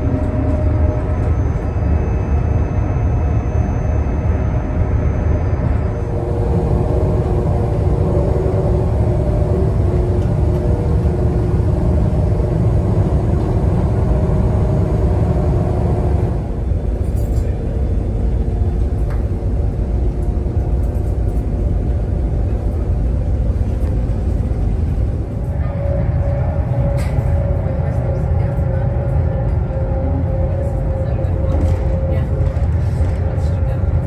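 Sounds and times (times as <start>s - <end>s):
faint steady hum: 0.0s - 32.4s
train rumble inside carriage: 0.0s - 34.0s.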